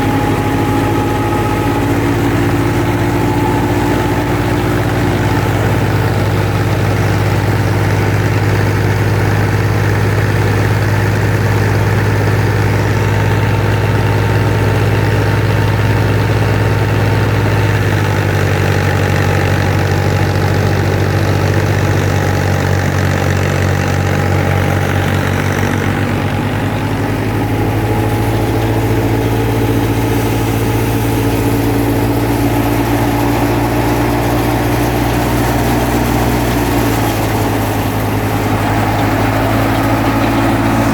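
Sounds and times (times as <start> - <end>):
thresher mechanical drone: 0.0 - 40.9.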